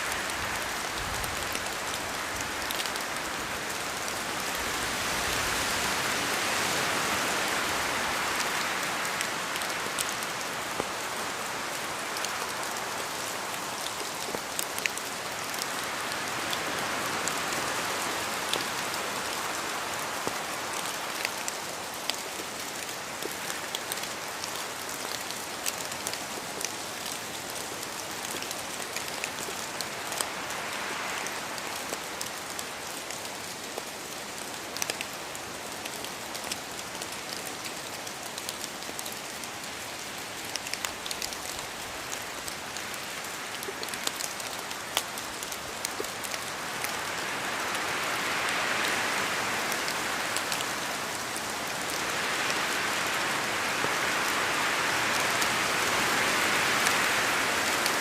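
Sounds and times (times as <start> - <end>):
rain falling in a forest: 0.0 - 58.0
wind gusting through trees: 0.0 - 58.0.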